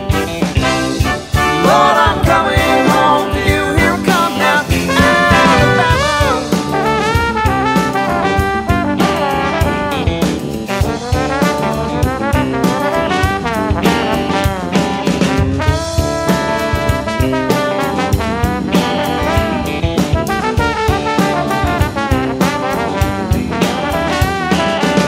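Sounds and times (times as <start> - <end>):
drum kit beat: 0.0 - 25.0
upbeat brass jazz: 0.0 - 25.0.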